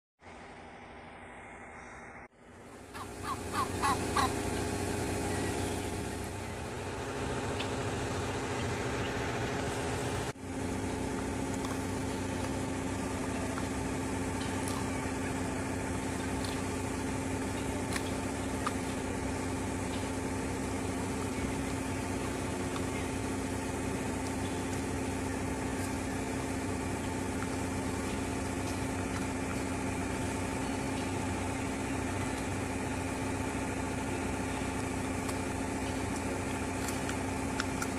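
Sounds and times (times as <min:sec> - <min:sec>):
steady motor hum: 0:00.2 - 0:37.9.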